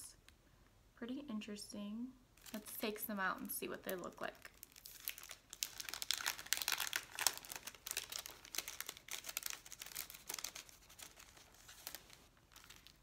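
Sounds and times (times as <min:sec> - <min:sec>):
sticker sheets crinkling: 0:02.4 - 0:13.0.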